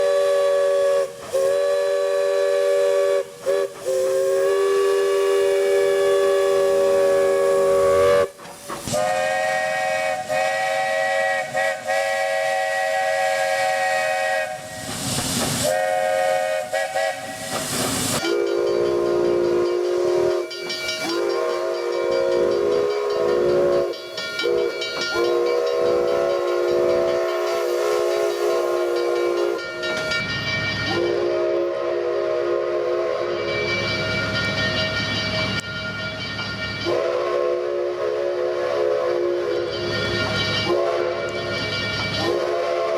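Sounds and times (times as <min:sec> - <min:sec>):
steam hissing: 0:00.0 - 0:42.9
steam locomotive chime whistle: 0:00.0 - 0:42.9.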